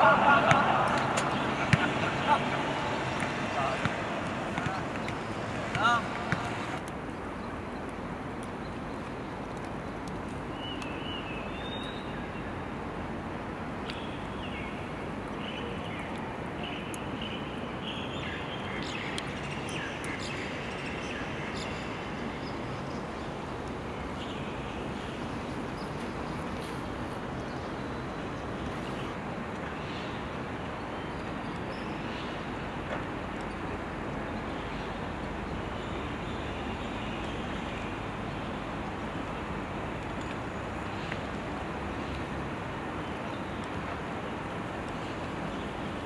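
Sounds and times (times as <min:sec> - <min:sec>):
open-air background noise: 0:00.0 - 0:46.0.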